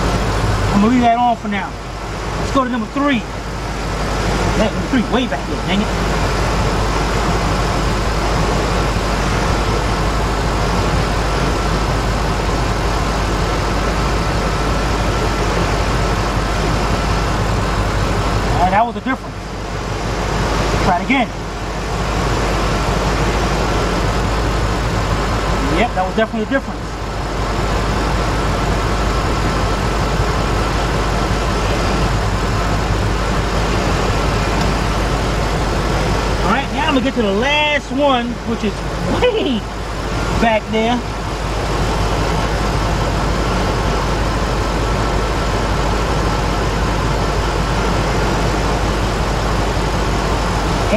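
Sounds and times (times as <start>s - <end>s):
car engine idling rough: 0.0s - 50.9s.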